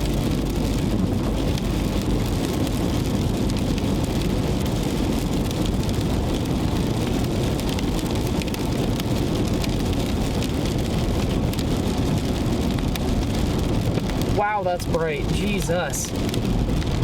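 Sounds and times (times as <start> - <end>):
raindrops ticking on car: 0.0 - 17.0
road rumble inside car: 0.0 - 17.0.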